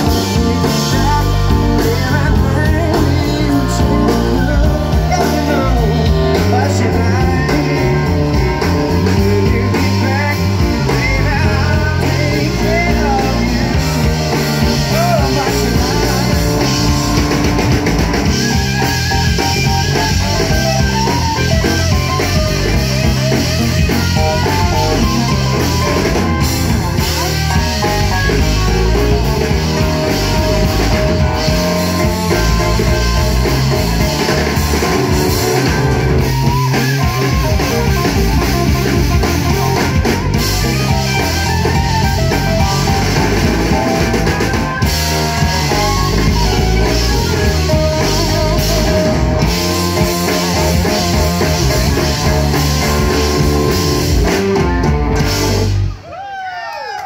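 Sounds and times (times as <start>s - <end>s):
drum kit: 0.0s - 56.6s
electric guitars: 0.0s - 57.0s
keyboards: 0.0s - 57.0s.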